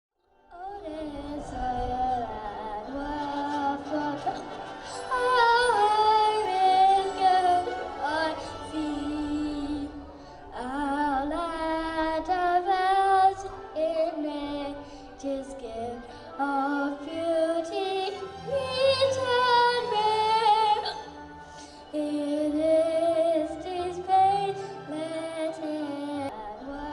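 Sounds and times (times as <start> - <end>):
child singing an anthem: 0.5 - 21.1, 22.0 - 26.9.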